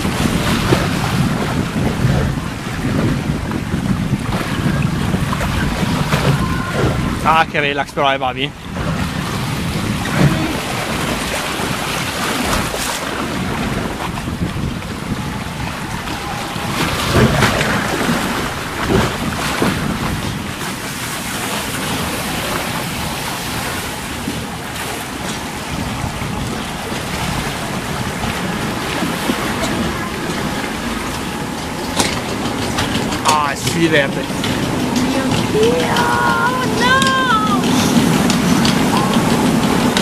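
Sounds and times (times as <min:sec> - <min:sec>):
water rushing down flume channel: 0:00.0 - 0:40.0.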